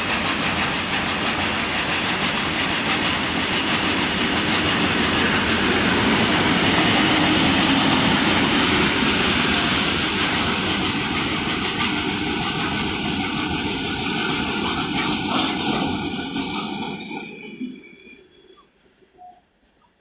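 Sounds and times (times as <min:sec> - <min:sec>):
wheels clacking over rail joints: 0:00.0 - 0:18.1
freight train rumbling past: 0:00.0 - 0:19.3.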